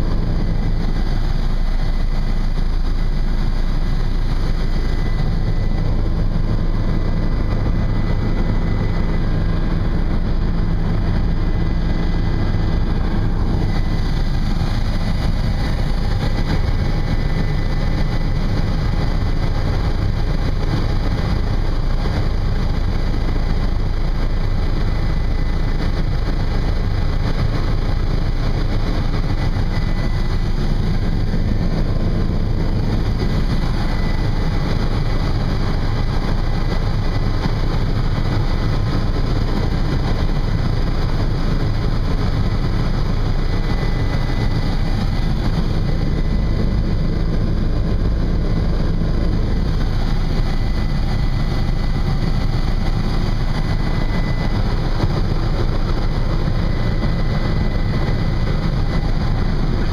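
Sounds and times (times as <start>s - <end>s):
faint high whine: 0.0s - 59.9s
helicopter engine and rotor drone: 0.0s - 59.9s.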